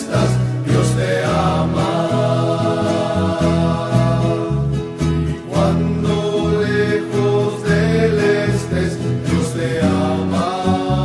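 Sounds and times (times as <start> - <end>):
guitars and bass: 0.0 - 11.0
voices singing in harmony: 0.0 - 11.0.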